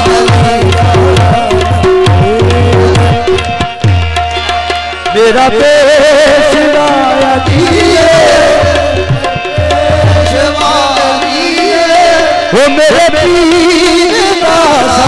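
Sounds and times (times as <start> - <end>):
sustained harmonium tones: 0.0 - 15.0
tabla playing: 0.0 - 15.0.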